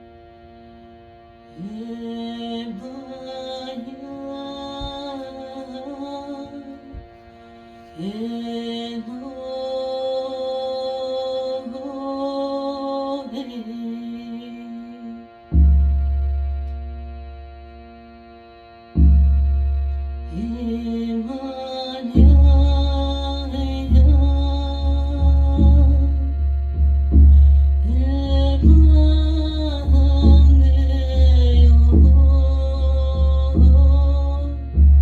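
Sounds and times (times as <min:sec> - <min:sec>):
steady drone: 0:00.0 - 0:35.0
wordless chant-like singing: 0:01.5 - 0:17.7, 0:19.8 - 0:35.0.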